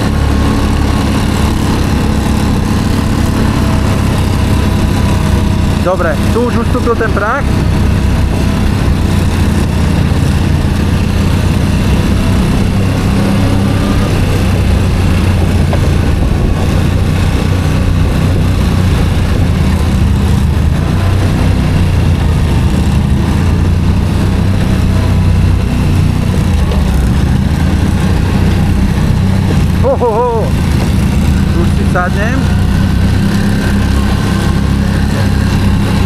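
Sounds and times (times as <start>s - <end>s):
atv engine droning: 0.0s - 36.0s.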